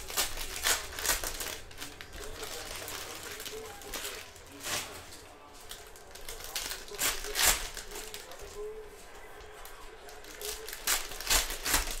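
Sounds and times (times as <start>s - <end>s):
cellophane wrapper crinkling: 0.0s - 8.8s, 9.4s - 12.0s.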